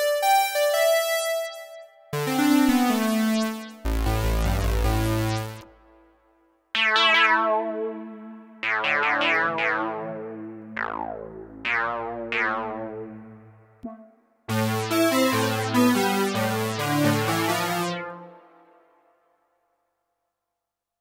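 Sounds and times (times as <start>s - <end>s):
buzzy synthesizer melody with chords: 0.0s - 19.0s
synthesizer lead notes: 0.0s - 19.0s.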